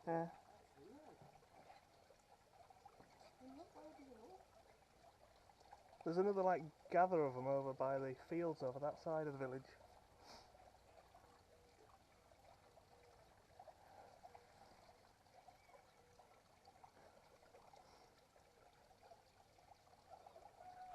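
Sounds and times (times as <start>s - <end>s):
faint outdoor hiss: 0.0s - 20.9s.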